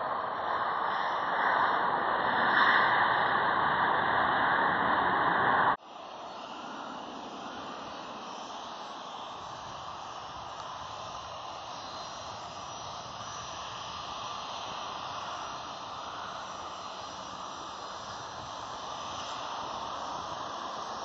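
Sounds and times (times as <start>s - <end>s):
distant jet engines rushing: 0.0s - 21.0s.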